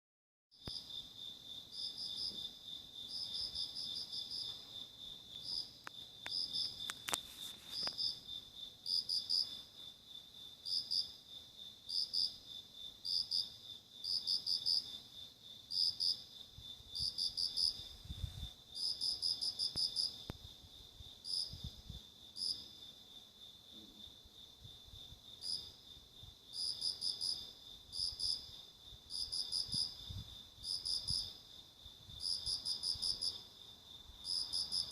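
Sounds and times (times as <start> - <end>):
cricket steady trill: 0.5 - 34.9
cricket chirping in pulses: 0.6 - 34.9.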